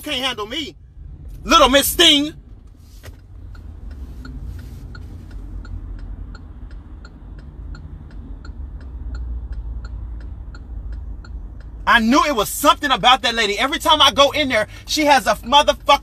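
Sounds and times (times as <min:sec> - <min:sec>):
car interior rumble: 0:00.0 - 0:16.0
turn signal ticking: 0:00.0 - 0:16.0.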